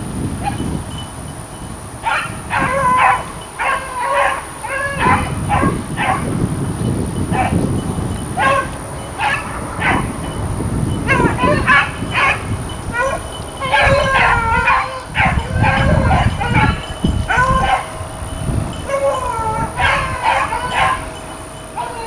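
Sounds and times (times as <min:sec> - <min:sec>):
dogs baying: 0:02.0 - 0:06.5, 0:07.2 - 0:22.0.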